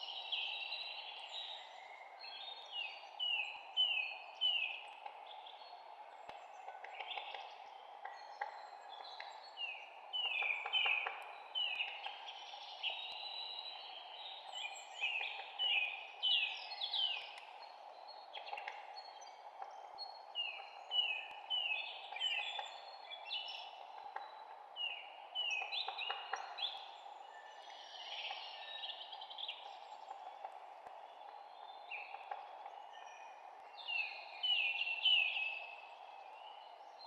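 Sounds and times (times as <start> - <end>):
songbirds chirping: 0.0 - 37.0
steady background hiss: 0.0 - 37.0.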